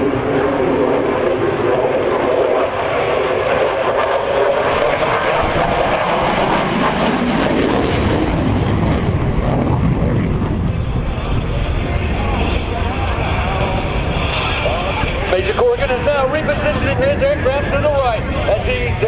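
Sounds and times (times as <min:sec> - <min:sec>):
jet engine flying past: 0:00.0 - 0:19.0.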